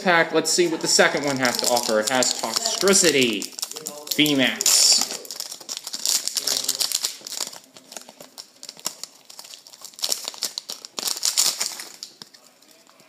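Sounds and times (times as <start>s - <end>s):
foil wrapper crinkling: 0.6s - 13.0s.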